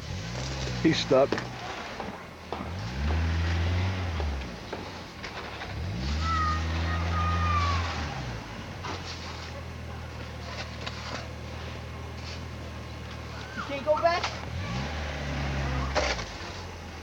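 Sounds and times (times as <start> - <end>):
car engine revving with whine: 0.0 - 17.0.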